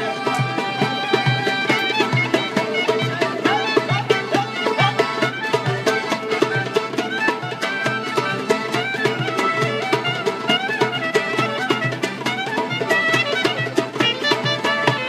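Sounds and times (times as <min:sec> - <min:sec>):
accordion: 0:00.0 - 0:15.0
clarinet melody: 0:00.0 - 0:15.0.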